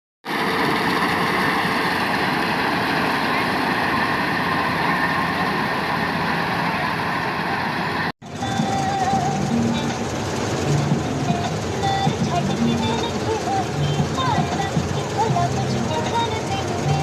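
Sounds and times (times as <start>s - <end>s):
combine harvester drone: 0.2s - 17.0s
faint steady whines: 0.3s - 17.0s.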